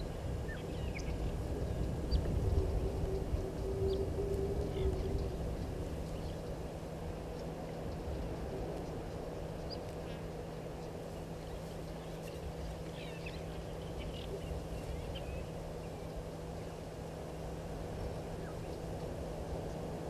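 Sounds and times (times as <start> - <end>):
outdoor background noise: 0.0 - 20.0
steady low hum: 0.0 - 20.0.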